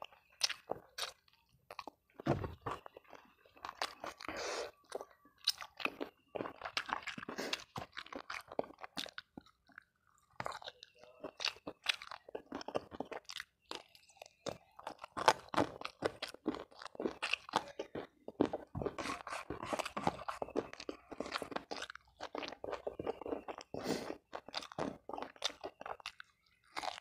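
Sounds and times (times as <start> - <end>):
person chewing and crunching food: 0.0 - 27.0.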